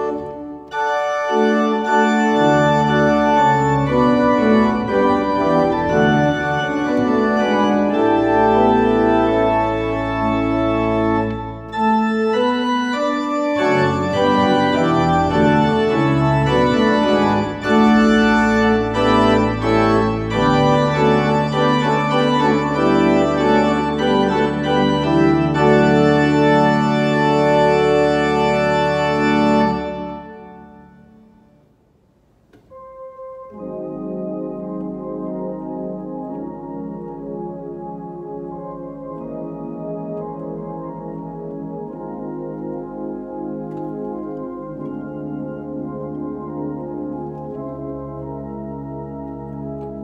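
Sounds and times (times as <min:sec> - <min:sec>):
church organ chords: 0:00.0 - 0:31.8, 0:32.4 - 0:50.0.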